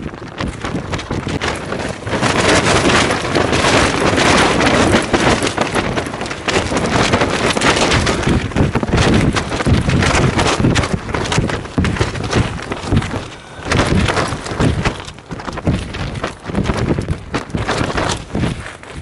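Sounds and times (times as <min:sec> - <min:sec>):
gusty wind on microphone: 0:00.0 - 0:19.0.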